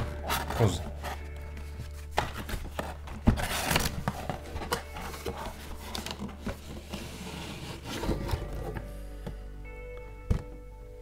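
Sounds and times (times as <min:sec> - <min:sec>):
cardboard flap scraping and rustling: 0:00.0 - 0:08.9.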